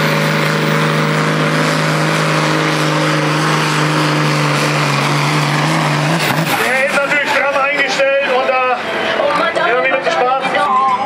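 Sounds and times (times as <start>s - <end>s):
tractor engine running flat out: 0.0s - 11.0s.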